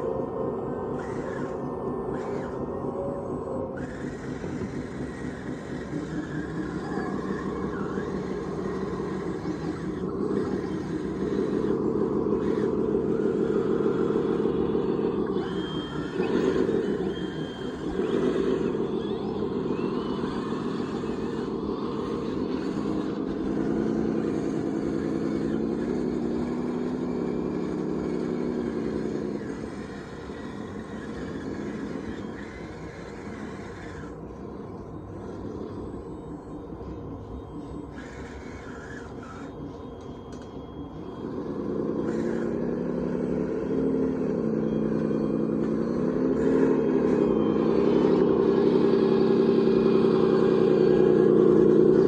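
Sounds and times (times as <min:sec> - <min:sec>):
model machine motor running: 0:00.0 - 0:52.0.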